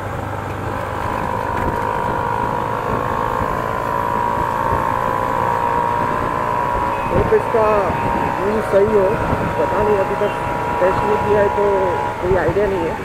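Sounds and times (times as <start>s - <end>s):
motorcycle engine running: 0.0s - 13.0s
wind and road noise: 0.0s - 13.0s
steady high whine: 0.7s - 13.0s.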